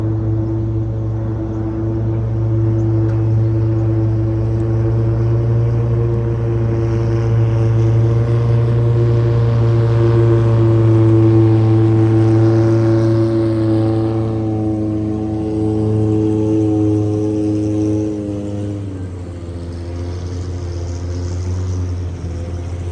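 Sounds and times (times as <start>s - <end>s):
boat engine running: 0.0s - 22.9s
water rushing along hull: 0.0s - 22.9s.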